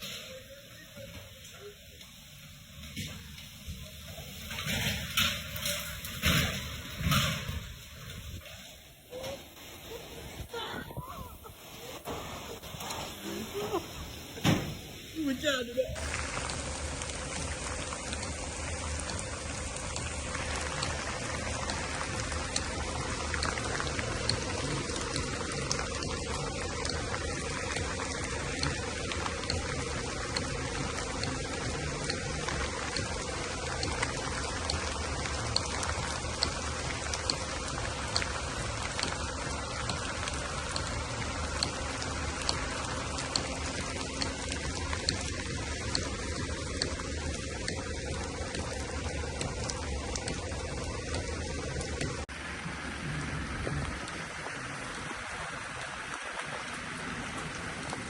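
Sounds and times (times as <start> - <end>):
heavy rain on hard surface: 0.0 - 58.0.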